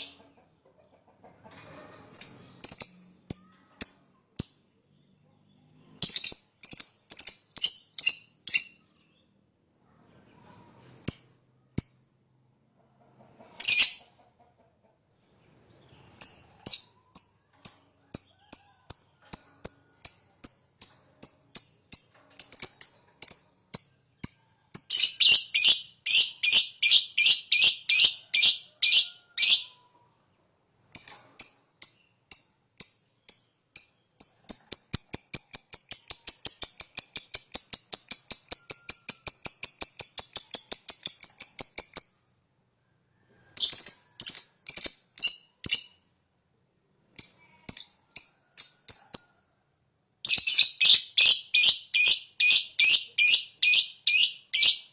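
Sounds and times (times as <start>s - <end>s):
lovebird chirping: 2.2s - 12.2s, 13.5s - 14.1s, 15.6s - 30.0s, 30.9s - 42.3s, 43.4s - 46.1s, 47.2s - 49.5s, 50.2s - 54.9s.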